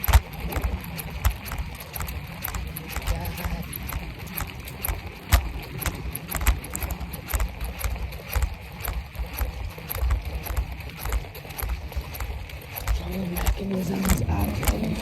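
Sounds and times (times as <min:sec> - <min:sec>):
bicycle rolling rumble: 0:00.0 - 0:15.0
flat bicycle tire knocking: 0:00.0 - 0:15.0.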